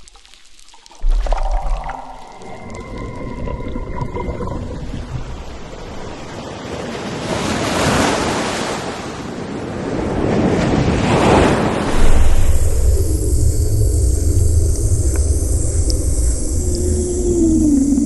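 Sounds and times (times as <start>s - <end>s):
ocean waves surging: 2.4s - 18.0s.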